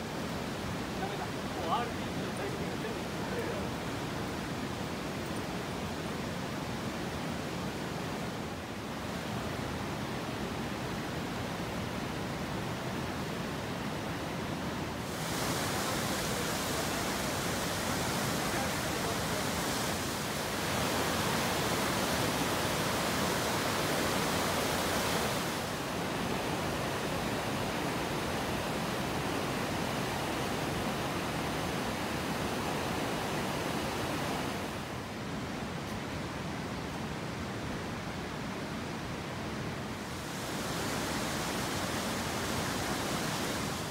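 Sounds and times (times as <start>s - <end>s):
river rushing over rapids: 0.0s - 43.9s.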